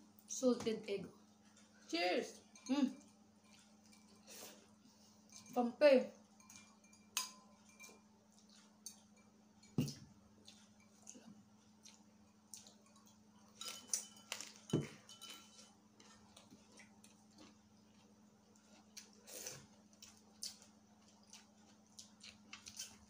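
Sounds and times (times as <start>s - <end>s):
clicks and knocks of eating: 2.4s - 4.3s, 6.3s - 23.0s.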